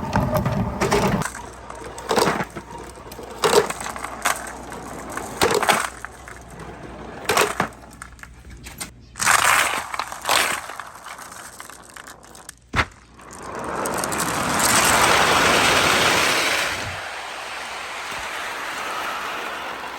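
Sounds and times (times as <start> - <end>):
marbles rolling down wooden ramps: 0.0 - 8.3, 9.2 - 19.9.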